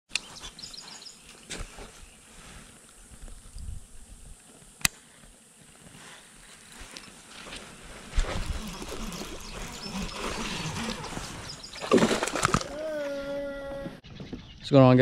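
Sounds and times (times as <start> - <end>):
faint insect chirps: 0.1 - 13.4.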